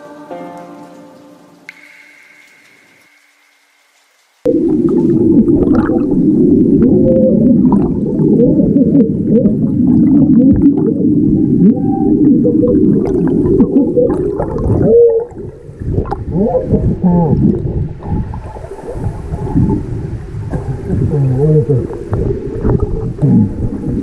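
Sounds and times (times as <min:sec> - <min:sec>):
underwater gas bubbling: 0:04.5 - 0:24.0.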